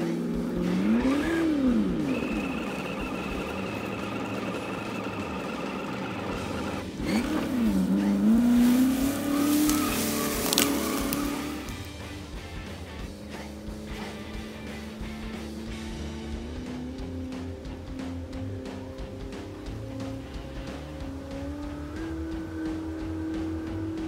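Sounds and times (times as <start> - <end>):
electric motor and gearbox whining: 0.0 - 24.0.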